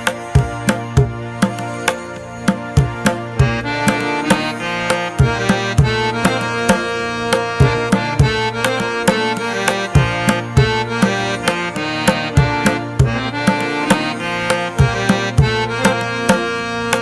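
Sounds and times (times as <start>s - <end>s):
hand drum rhythm: 0.0s - 17.0s
sustained melodic notes: 0.0s - 17.0s.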